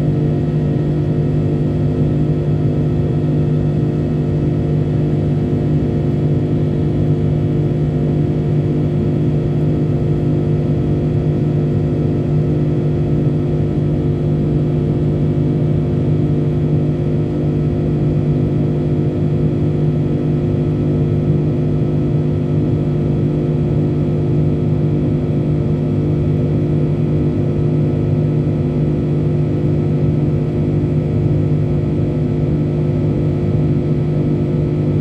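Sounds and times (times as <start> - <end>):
jet engines droning in cabin: 0.0 - 35.0.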